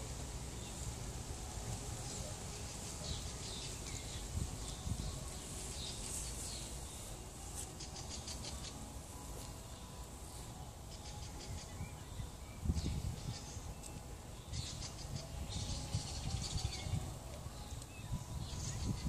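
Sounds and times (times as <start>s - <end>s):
small birds chirping and trilling: 0.0s - 19.0s.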